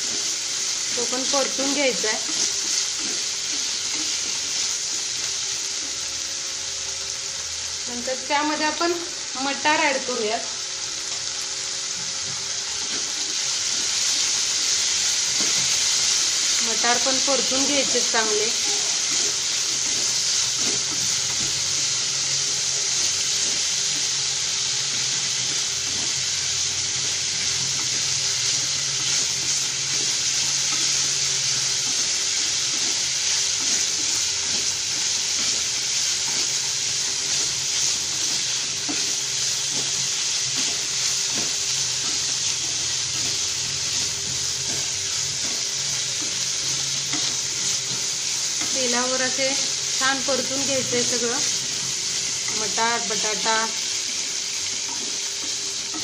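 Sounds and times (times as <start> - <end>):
vegetables sizzling in a frying pan: 0.0 - 56.0.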